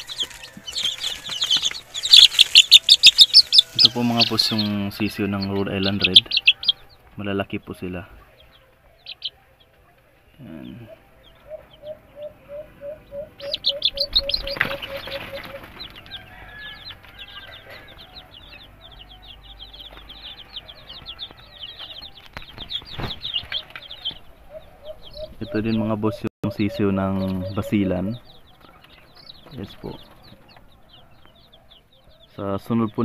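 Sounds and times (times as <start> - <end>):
chicks peeping: 0.0 - 33.0.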